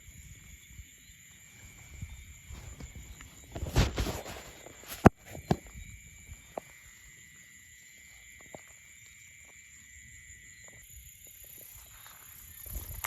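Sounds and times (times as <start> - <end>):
high-pitched insect calls: 0.0 - 13.0.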